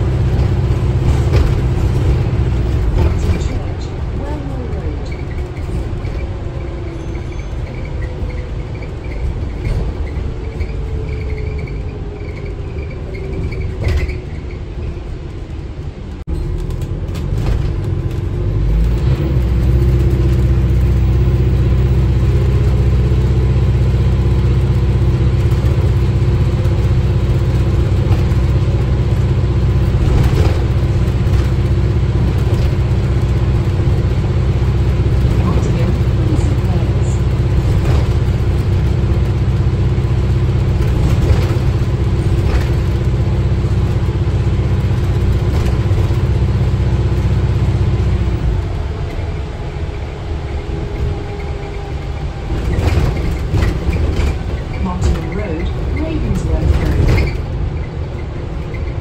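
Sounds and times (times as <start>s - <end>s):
diesel engine low rumble: 0.0s - 59.0s.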